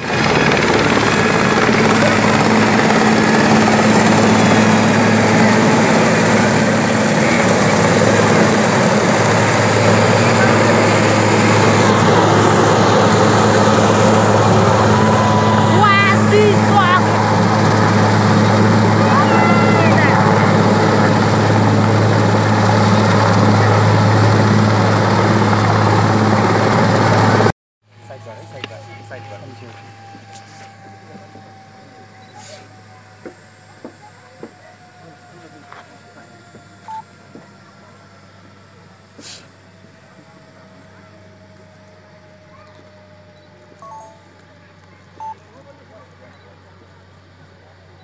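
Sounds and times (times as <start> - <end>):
helicopter rotor and engine noise: 0.0 - 48.0.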